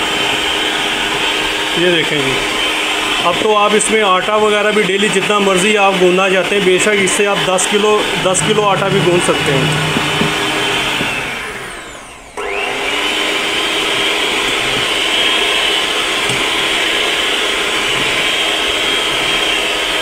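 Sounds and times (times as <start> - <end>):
electric hand mixer whine: 0.0 - 20.0.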